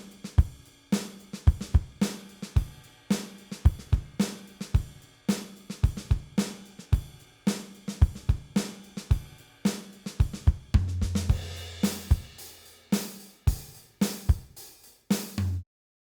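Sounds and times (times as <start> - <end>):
drum kit playing: 0.0 - 15.6.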